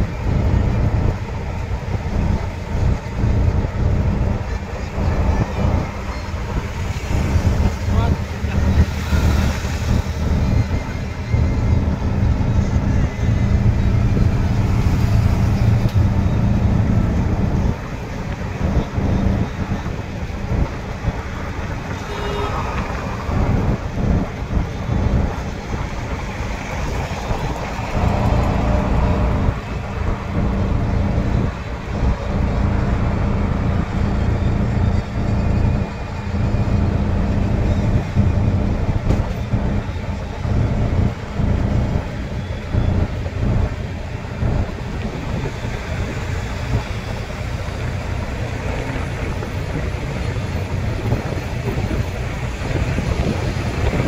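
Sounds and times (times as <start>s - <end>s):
vehicle road noise: 0.0s - 54.0s
wind buffeting microphone: 0.0s - 54.0s.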